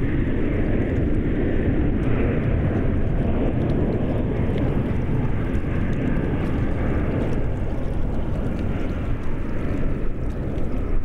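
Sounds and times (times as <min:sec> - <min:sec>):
distant jet engine rumble: 0:00.0 - 0:11.0.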